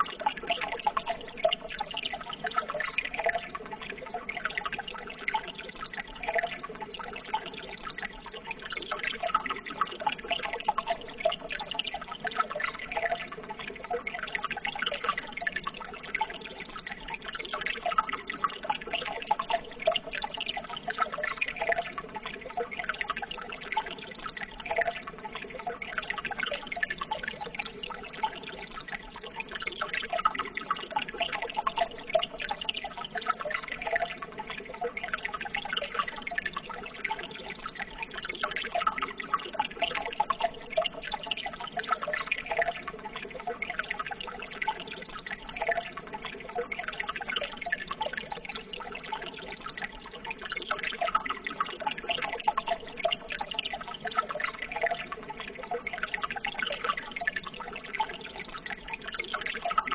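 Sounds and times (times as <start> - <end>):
water babbling trickle: 0.0 - 59.9.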